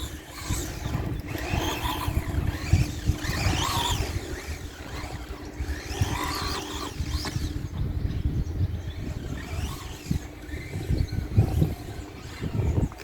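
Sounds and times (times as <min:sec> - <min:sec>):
electric toy car motor whining: 0:00.0 - 0:13.0
wind rumbling on microphone: 0:00.0 - 0:13.0.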